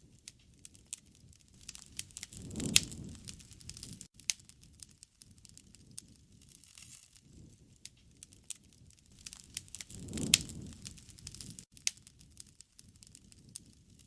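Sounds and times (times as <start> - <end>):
bonfire crackling and popping: 0.0 - 14.0
low rushing of fire: 0.1 - 14.0.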